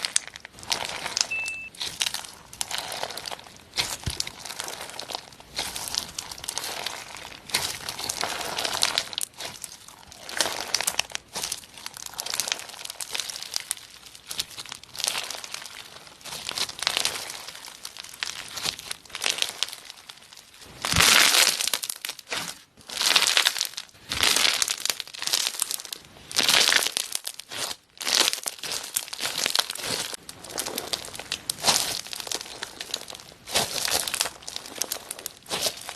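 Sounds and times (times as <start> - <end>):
slime squeezed by hand crackling: 0.0 - 35.9.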